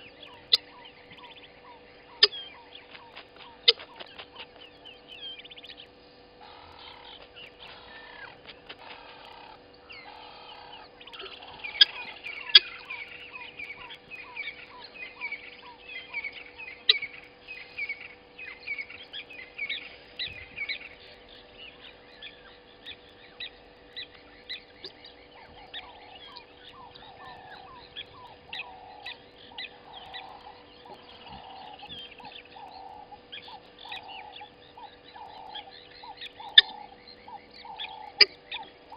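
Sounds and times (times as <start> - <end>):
birds chirping: 0.0 - 38.9
faint steady hum: 0.0 - 38.9
soft low bird calls: 0.0 - 38.9.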